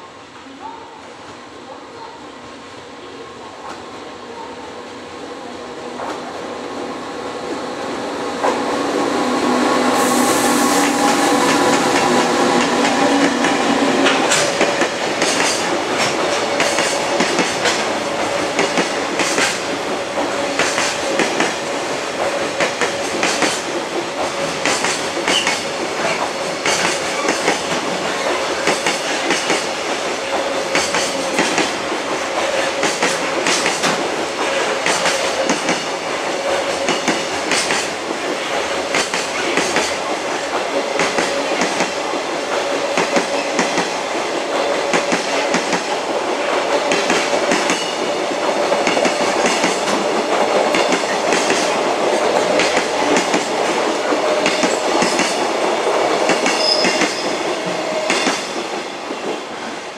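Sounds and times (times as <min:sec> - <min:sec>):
train wheels clicking over joints: 0:07.0 - 0:59.9.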